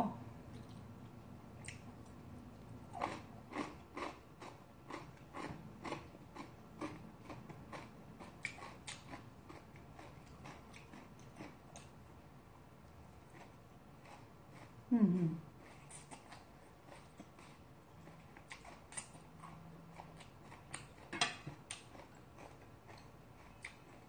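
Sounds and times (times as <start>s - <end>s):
person chewing food: 0.4s - 14.8s, 15.5s - 24.0s.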